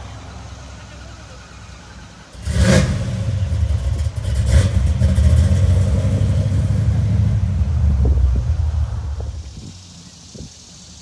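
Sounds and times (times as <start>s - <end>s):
car engine rumbling with revs: 0.0s - 11.0s.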